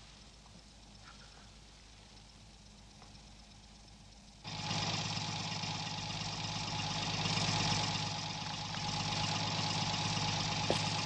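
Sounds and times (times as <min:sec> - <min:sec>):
tow truck engine idling: 0:00.0 - 0:11.0.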